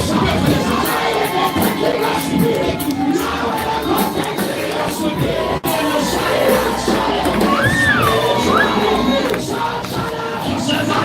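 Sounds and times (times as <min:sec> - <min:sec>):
congregation singing worship music: 0:00.0 - 0:11.0
crowd cheering: 0:00.0 - 0:11.0.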